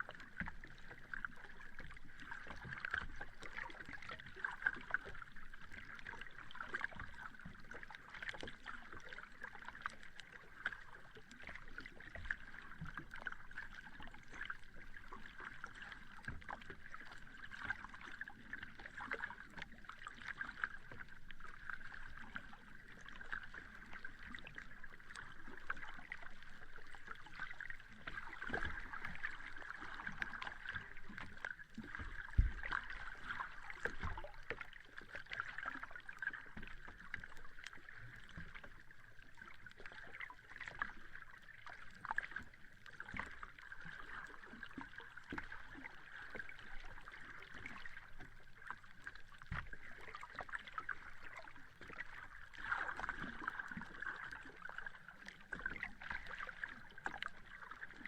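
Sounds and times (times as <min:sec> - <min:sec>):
sea water lapping: 0:00.0 - 0:58.0.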